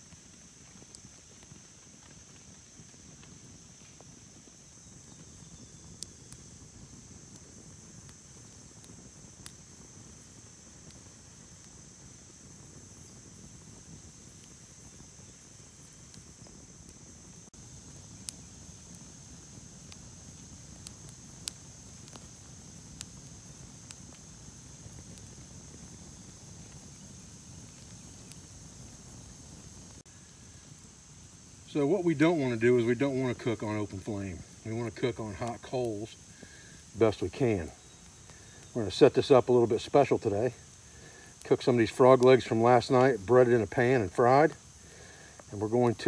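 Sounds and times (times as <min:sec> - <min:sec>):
campfire crackling and popping: 0:00.0 - 0:46.0
insects droning: 0:00.0 - 0:46.0.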